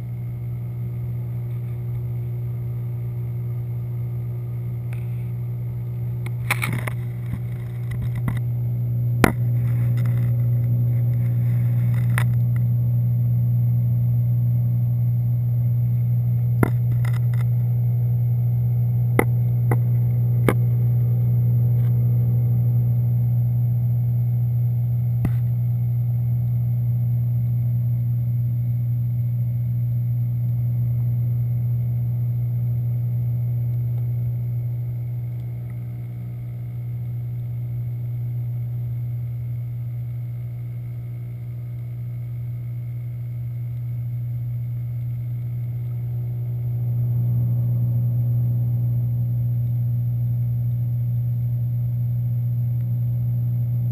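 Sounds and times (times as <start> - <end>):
aquarium pump hum underwater: 0.0 - 53.9.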